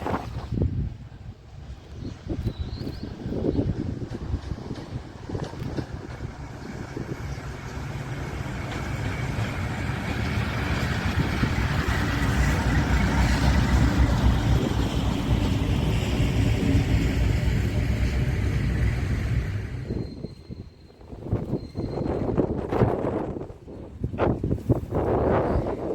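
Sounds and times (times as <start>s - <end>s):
rail and wheel noise: 0.0s - 25.9s
freight train rumbling past: 3.0s - 25.9s.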